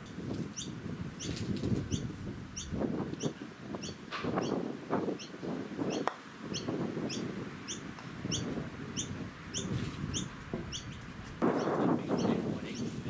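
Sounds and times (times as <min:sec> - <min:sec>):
bird chirping: 0:00.0 - 0:13.0
gusty low rumble: 0:00.0 - 0:13.0.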